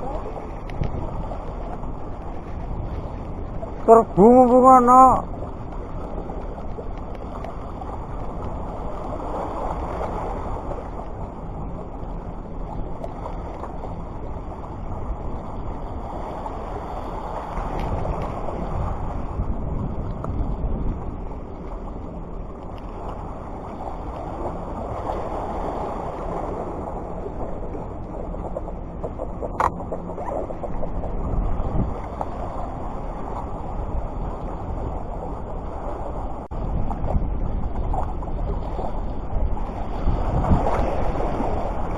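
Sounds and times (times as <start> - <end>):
sea washing: 0.0 - 41.9
wind rumbling on microphone: 0.0 - 41.9.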